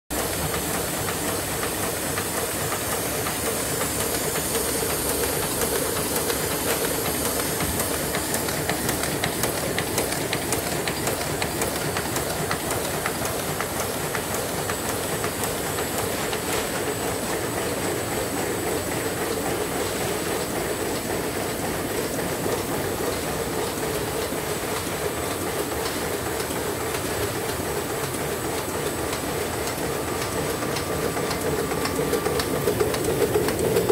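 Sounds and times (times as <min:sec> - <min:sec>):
printing press clattering: 0:00.1 - 0:33.9.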